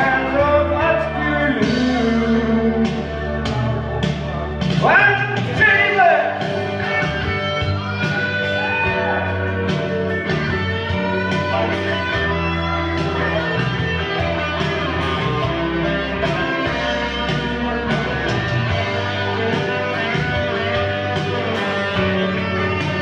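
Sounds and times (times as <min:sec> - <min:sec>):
bass and steady beat: 0:00.0 - 0:23.0
electric guitar lead: 0:00.0 - 0:23.0.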